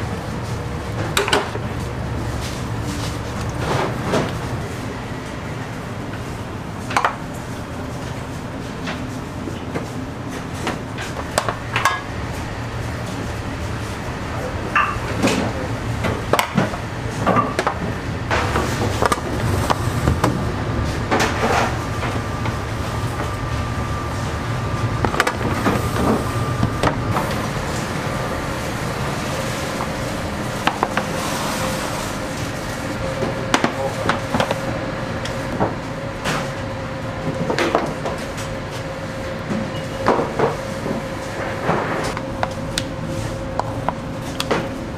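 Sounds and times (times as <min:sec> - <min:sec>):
machinery hum: 0:00.0 - 0:44.9.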